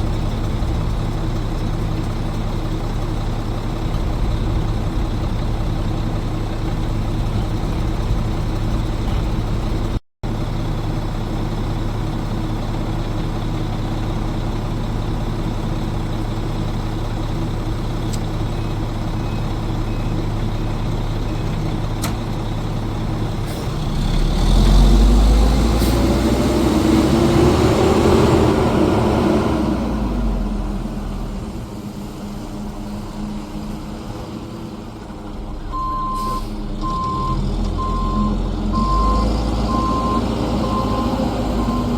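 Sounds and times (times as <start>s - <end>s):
diesel truck engine idling and revving: 0.0s - 41.9s.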